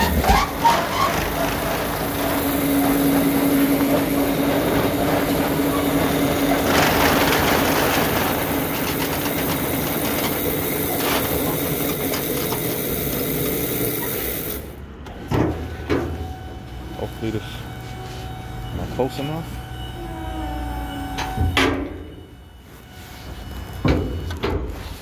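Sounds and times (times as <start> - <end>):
warehouse machinery running: 0.0 - 25.0.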